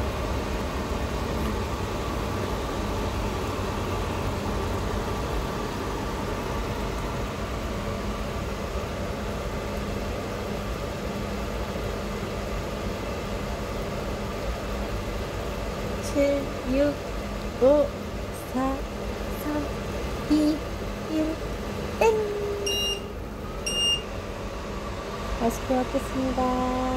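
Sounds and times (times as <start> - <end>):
cooking machine humming: 0.0 - 26.9.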